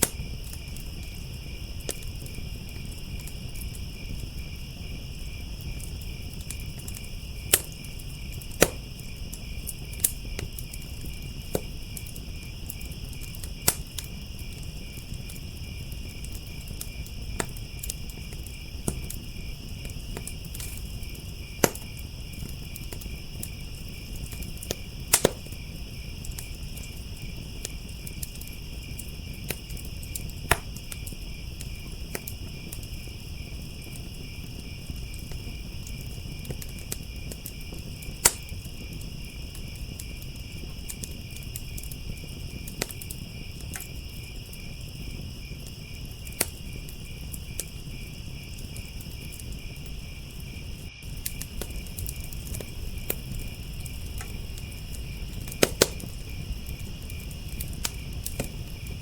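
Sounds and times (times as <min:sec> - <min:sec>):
burning wood crackling and popping: 0:00.0 - 0:59.0
crickets chirping: 0:00.0 - 0:59.0
wood fire rumble: 0:00.0 - 0:59.0.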